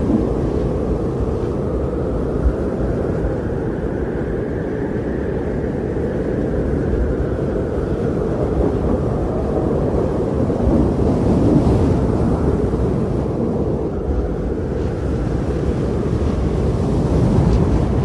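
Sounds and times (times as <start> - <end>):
blizzard wind rushing: 0.0 - 18.0.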